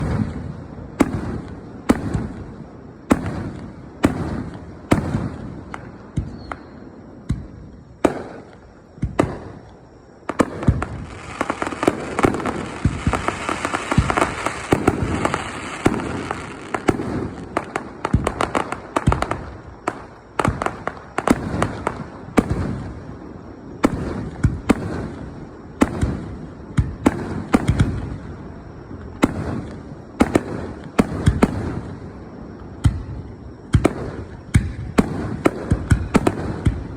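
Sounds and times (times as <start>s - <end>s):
fireworks popping and crackling: 0.0s - 23.2s, 23.8s - 28.3s, 29.1s - 32.0s, 32.8s - 36.9s
fireworks booming: 0.0s - 36.9s.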